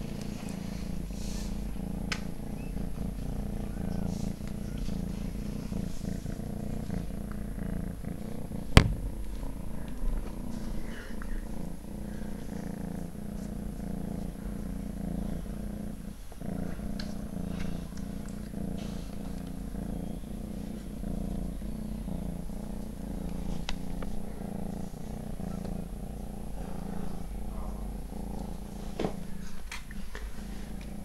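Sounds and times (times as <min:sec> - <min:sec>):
appliance humming: 0:00.0 - 0:29.0.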